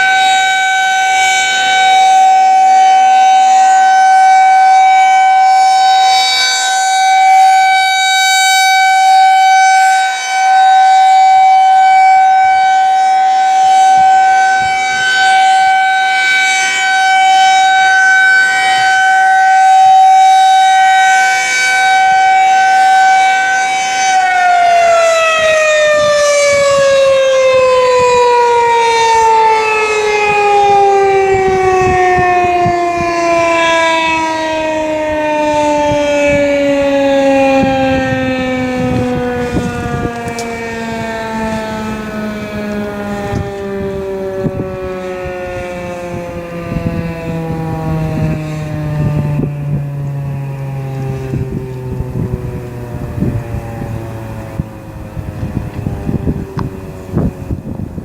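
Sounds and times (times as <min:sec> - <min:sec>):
warning siren steady tone: 0:00.0 - 0:58.0.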